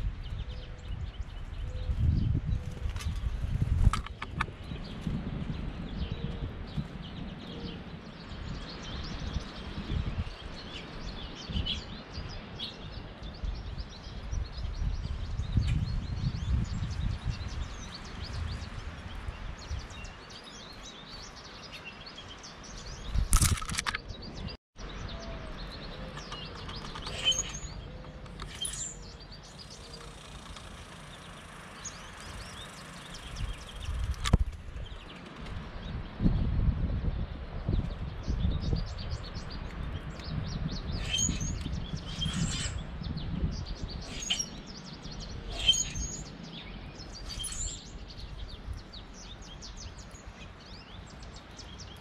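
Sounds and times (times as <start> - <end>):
songbirds chirping: 0.0 - 52.0
wind rumble on microphone: 0.0 - 52.0.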